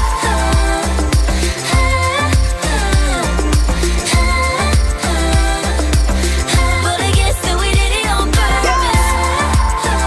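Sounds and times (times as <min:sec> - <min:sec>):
person singing: 0:00.0 - 0:10.0
pop song with deep bass beat: 0:00.0 - 0:10.0.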